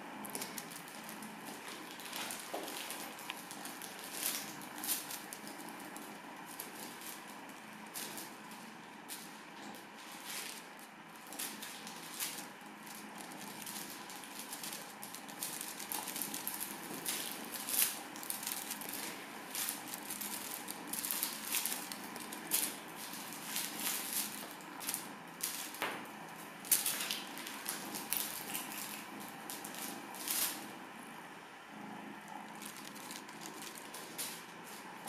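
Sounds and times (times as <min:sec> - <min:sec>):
kitten playing rustling: 0:00.2 - 0:30.9, 0:32.2 - 0:35.0.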